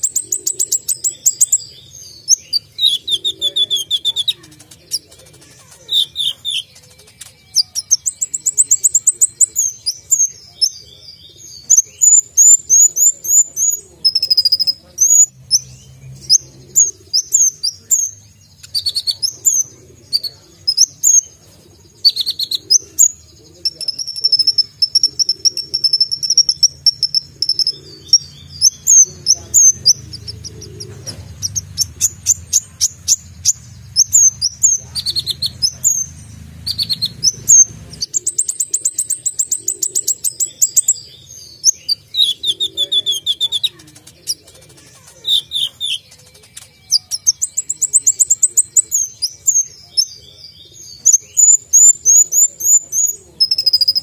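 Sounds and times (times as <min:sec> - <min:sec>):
bird singing high-pitched song: 0:00.0 - 0:54.0.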